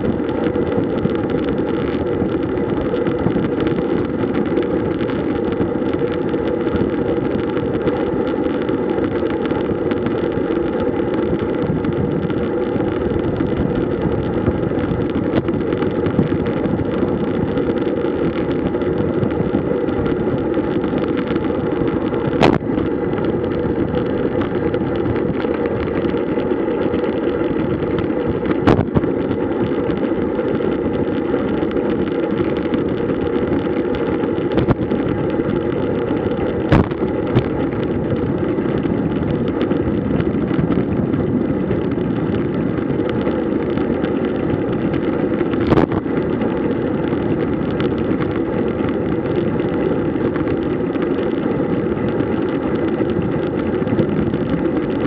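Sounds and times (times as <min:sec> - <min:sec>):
bike road noise: 0:00.0 - 0:55.0
rushing wind: 0:00.0 - 0:55.0.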